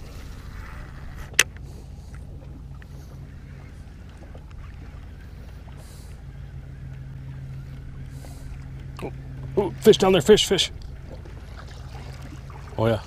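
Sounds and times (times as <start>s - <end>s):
boat hum and rumble: 0.0s - 13.0s.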